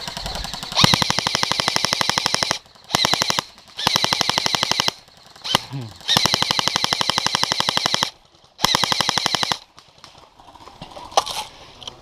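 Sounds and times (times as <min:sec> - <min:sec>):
airsoft gun firing bursts: 0:00.0 - 0:10.2.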